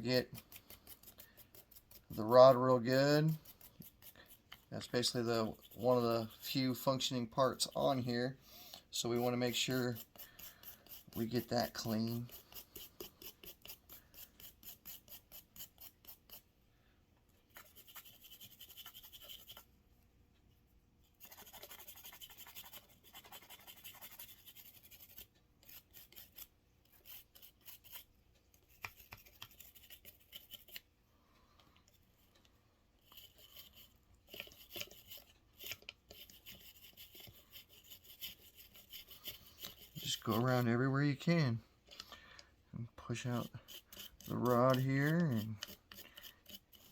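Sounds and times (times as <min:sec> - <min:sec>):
brush scrubbing metal rod: 0:00.0 - 0:08.3, 0:08.9 - 0:16.4, 0:21.2 - 0:30.8, 0:33.0 - 0:41.4, 0:43.0 - 0:46.9.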